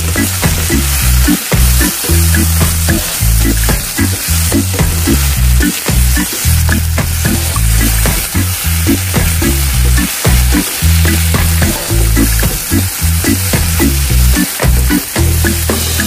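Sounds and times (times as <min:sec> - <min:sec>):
background music with bass: 0:00.0 - 0:16.0
food sizzling in frying pan: 0:00.0 - 0:16.0
wooden spatula stirring: 0:00.0 - 0:16.0.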